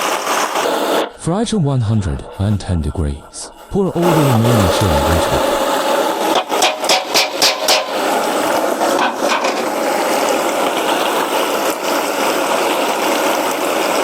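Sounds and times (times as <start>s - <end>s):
peppers sizzling in hot oil: 0.0s - 1.2s, 3.3s - 14.0s.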